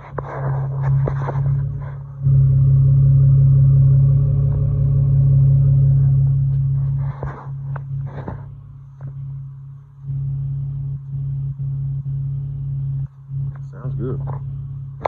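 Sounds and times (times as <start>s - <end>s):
car exhaust idling deep rumble: 0.0s - 15.0s.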